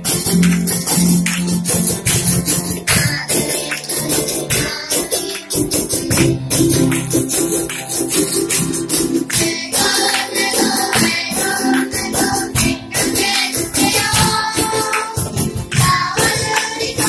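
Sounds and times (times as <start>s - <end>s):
audience clapping along: 0.0s - 17.0s
live music with singing: 0.0s - 17.0s
percussive beat: 0.0s - 17.0s.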